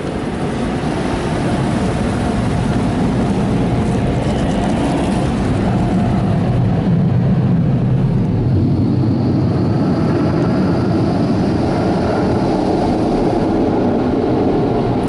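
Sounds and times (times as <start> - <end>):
car wash dryer blowers: 0.0 - 15.0.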